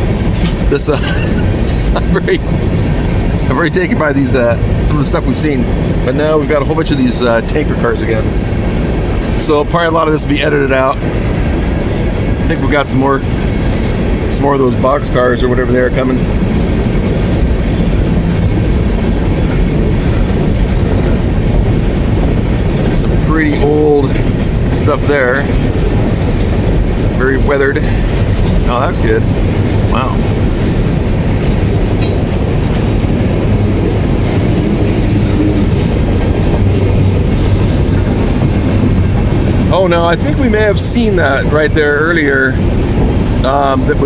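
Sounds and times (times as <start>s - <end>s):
steel train wheels on rails: 0.0s - 44.0s.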